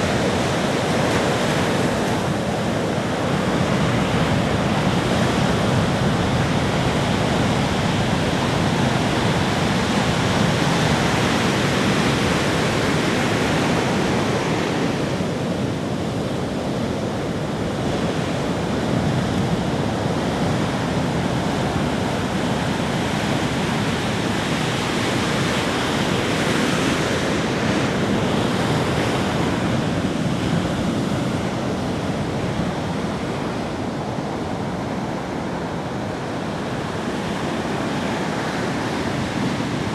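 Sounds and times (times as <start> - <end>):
ocean waves breaking on beach: 0.0 - 39.9
wind noise on microphone: 0.0 - 39.9.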